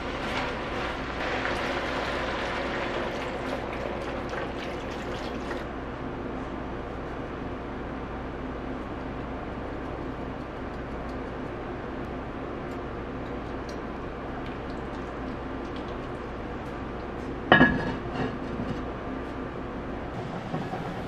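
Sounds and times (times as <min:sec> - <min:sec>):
appliance humming: 0:00.0 - 0:21.0.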